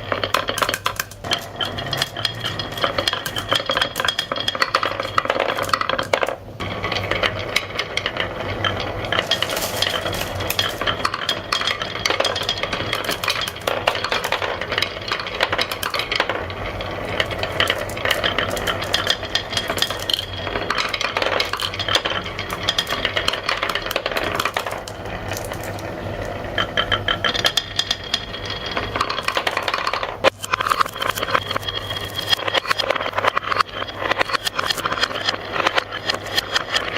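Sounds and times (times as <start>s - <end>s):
marbles rattling down a track: 0.0s - 36.9s.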